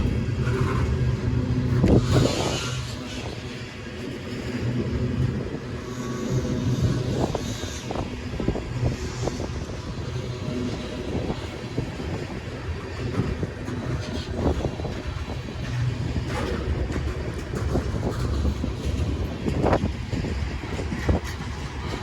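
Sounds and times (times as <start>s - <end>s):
freight train rumbling past: 0.0s - 22.0s
wheels clacking over rail joints: 0.0s - 22.0s.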